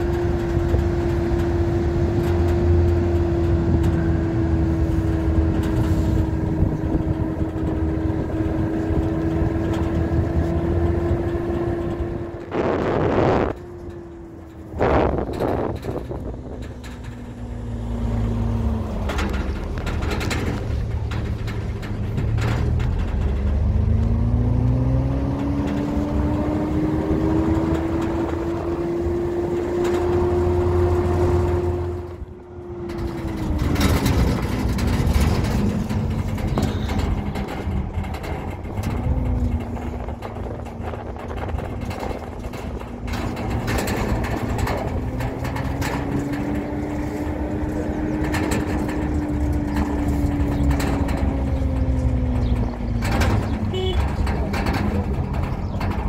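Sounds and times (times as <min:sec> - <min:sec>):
road rumble: 0:00.0 - 0:56.0
vehicle engine: 0:00.0 - 0:56.0
knocks from rough road: 0:04.9 - 0:56.0.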